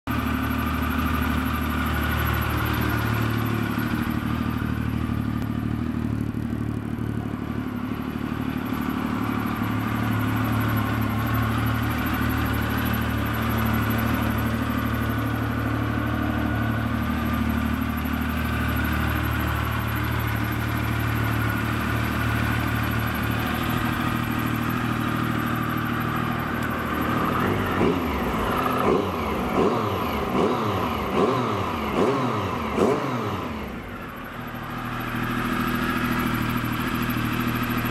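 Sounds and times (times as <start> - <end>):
motorcycle engine idling: 0.1 - 37.9.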